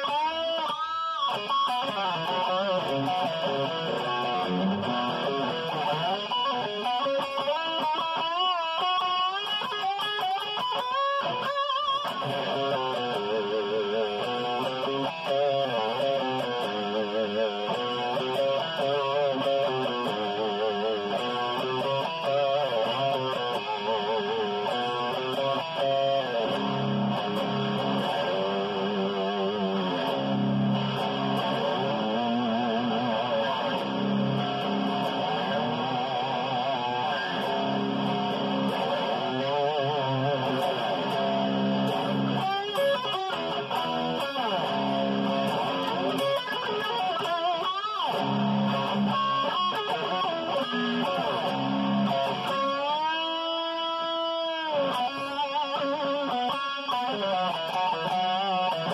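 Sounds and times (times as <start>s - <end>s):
electric guitar lead with vibrato: 0.0s - 58.9s.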